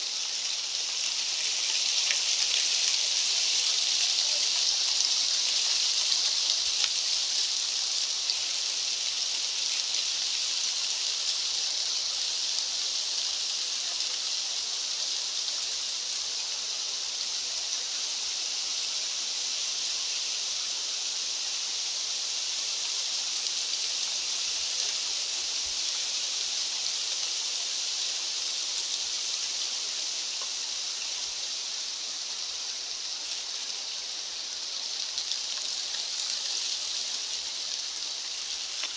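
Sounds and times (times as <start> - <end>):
high-pitched outdoor hiss: 0.0 - 38.9.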